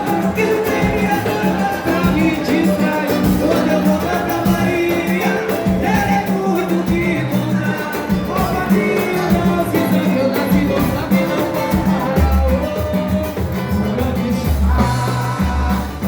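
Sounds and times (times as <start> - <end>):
bass line: 0.0 - 16.0
driving percussion: 0.0 - 16.0
person singing: 0.0 - 16.0.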